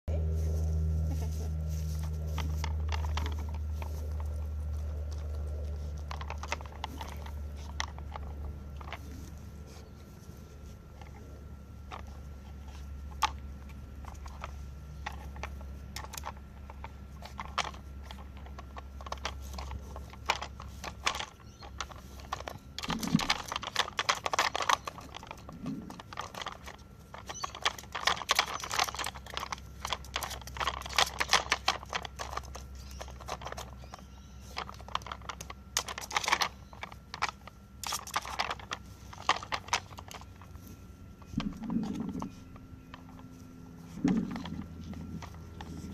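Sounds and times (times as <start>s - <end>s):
plastic puzzle toy clicking and rattling: 2.0s - 9.4s, 11.0s - 45.9s.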